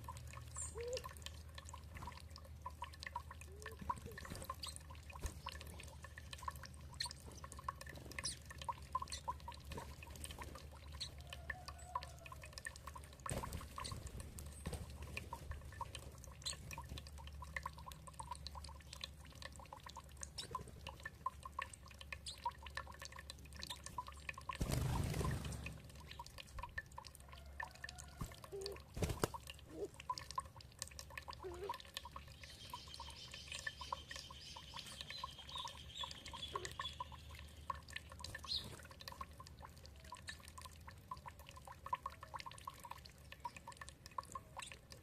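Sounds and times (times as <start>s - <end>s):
low steady background noise: 0.0s - 45.0s
water dripping and trickling: 0.0s - 45.0s.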